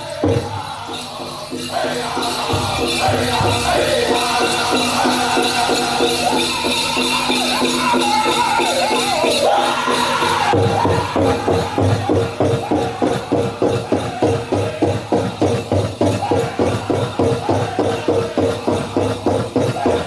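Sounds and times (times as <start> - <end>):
big drum beating: 0.0 - 8.8, 9.4 - 20.0
group singing: 0.0 - 20.0.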